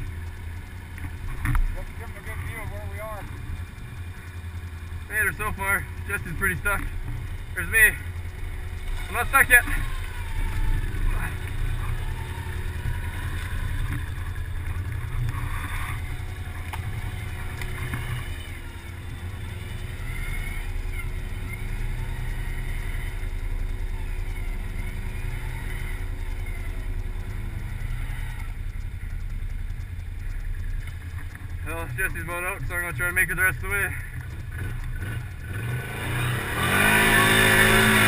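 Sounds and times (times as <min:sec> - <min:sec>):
atv engines revving: 0:00.0 - 0:38.0.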